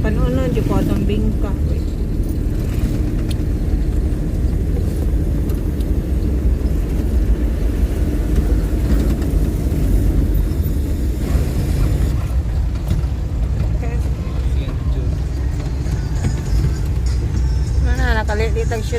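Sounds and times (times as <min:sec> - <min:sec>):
car engine and road noise: 0:00.0 - 0:18.9.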